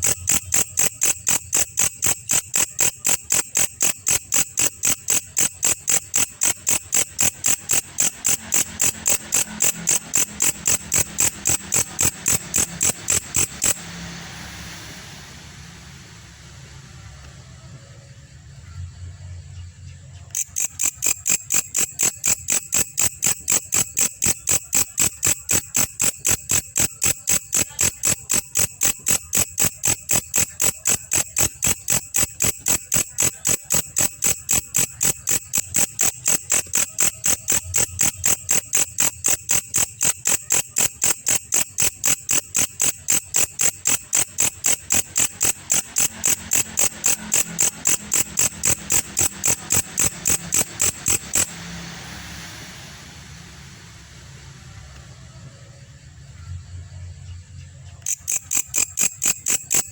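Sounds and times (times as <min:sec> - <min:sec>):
katydid chirping: 0:00.0 - 0:15.0, 0:20.2 - 0:52.4, 0:57.8 - 0:59.9.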